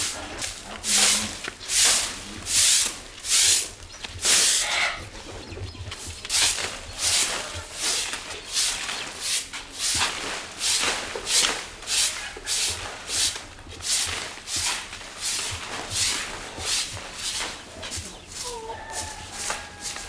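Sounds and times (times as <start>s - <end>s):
broom sweeping: 0.0s - 5.0s, 6.1s - 20.0s.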